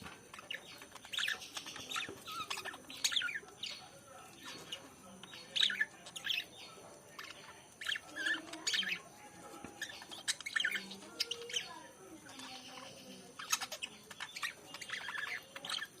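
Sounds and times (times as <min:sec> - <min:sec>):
lovebirds chirping: 0:00.0 - 0:16.0.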